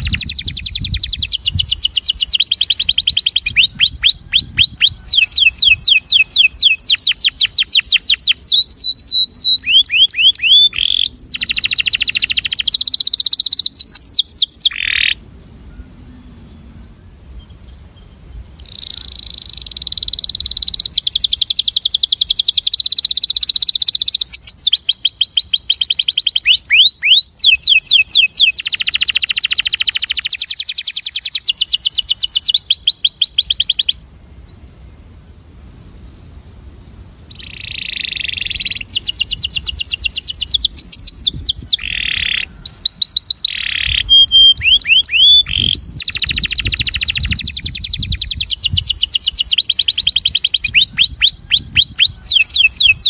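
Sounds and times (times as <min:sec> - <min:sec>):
canary singing trills: 0:00.0 - 0:16.2, 0:17.4 - 0:34.0, 0:37.2 - 0:53.0.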